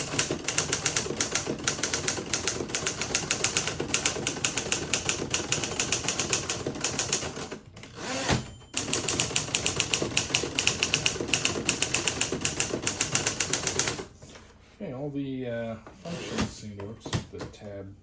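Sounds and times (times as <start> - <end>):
typewriter carriage return: 0.0 - 14.1, 16.0 - 17.6.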